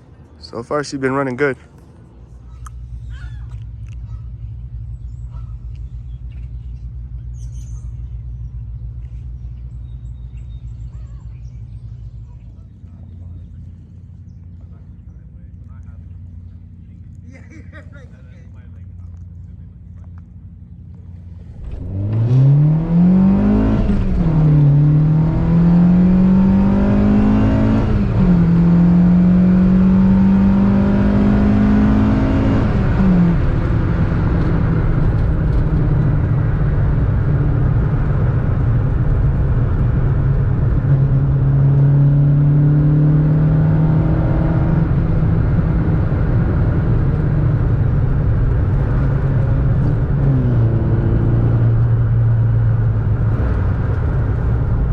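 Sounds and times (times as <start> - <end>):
car engine accelerating hard: 0.4 - 54.9.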